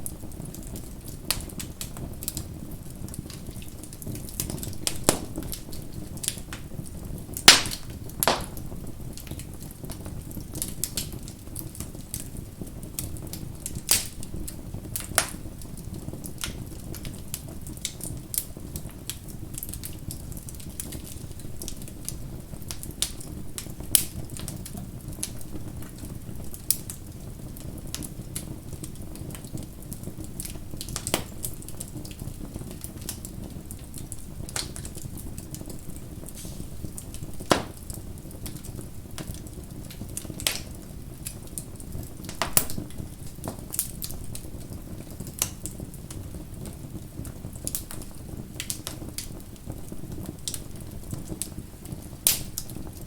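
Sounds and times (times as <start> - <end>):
bonfire rumble: 0.0 - 53.0
burning wood popping: 0.0 - 53.0.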